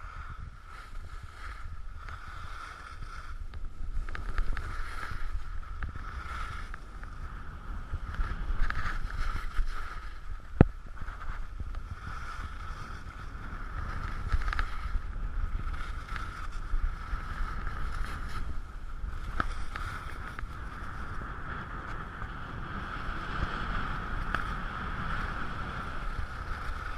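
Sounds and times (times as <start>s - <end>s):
skis scraping over snow: 0.0s - 26.9s
wind rumble: 0.0s - 26.9s.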